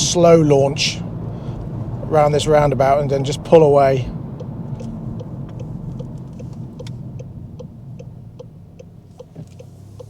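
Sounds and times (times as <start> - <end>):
engine and road hum: 0.0 - 10.0
turn signal ticking: 0.0 - 10.0.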